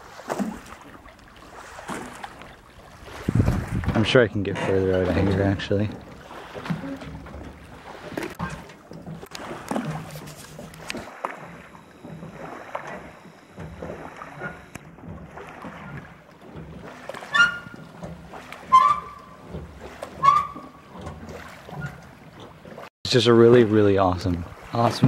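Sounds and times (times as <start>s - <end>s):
small waves lapping: 0.0s - 25.0s.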